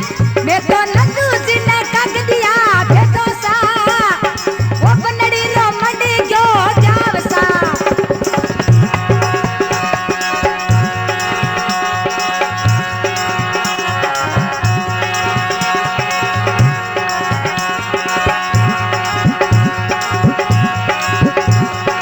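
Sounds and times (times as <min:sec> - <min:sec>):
hand drum rhythm: 0:00.0 - 0:22.0.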